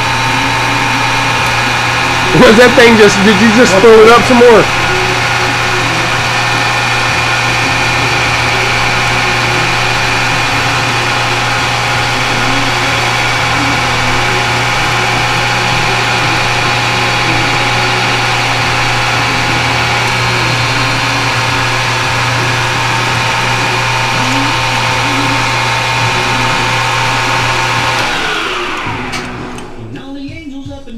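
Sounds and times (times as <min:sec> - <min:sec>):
lathe humming and coasting down: 0:00.0 - 0:30.4.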